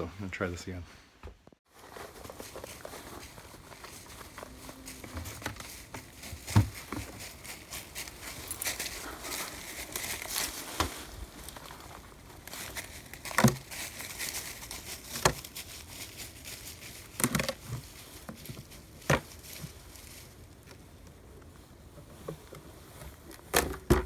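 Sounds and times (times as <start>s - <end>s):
rustling and light clicks: 1.8s - 23.8s.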